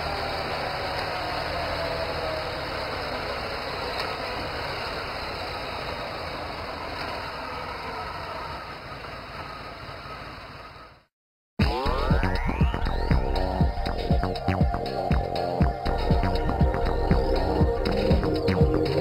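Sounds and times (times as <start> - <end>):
motorcycle engine running: 2.0 - 19.0.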